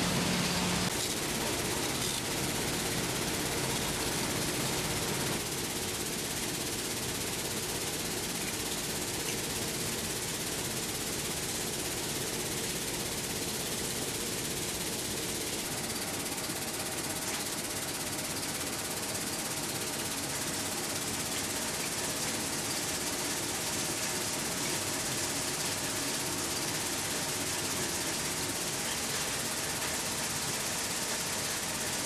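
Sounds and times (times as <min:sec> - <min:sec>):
faint machine hum: 0:00.0 - 0:32.0.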